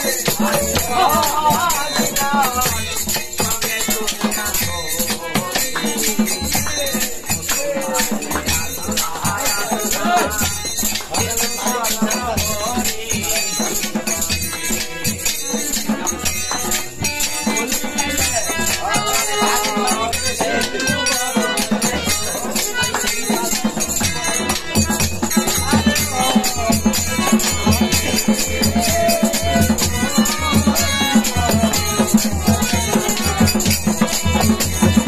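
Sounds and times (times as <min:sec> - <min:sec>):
frame drum with jingles: 0:00.0 - 0:35.0
harmonium: 0:00.0 - 0:35.0
person singing: 0:00.0 - 0:35.0.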